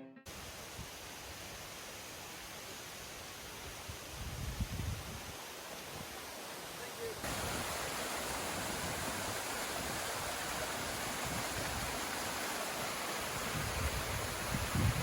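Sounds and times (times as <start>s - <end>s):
waterfall rushing and splashing: 0.3s - 15.0s.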